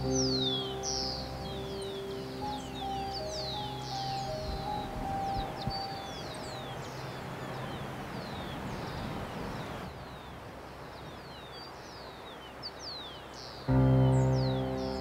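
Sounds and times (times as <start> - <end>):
birds chirping: 0.0 - 15.0
steady outdoor hiss: 0.0 - 15.0.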